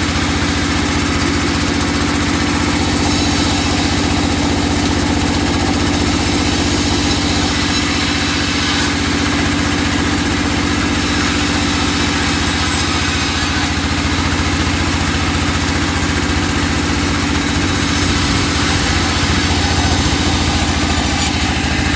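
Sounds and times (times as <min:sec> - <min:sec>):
sawing machine engine running: 0:00.0 - 0:21.9.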